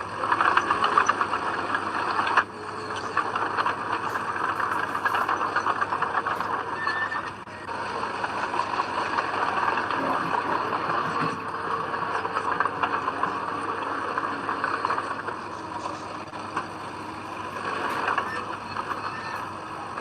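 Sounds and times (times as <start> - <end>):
machinery rattling and clanking: 0.0 - 20.0.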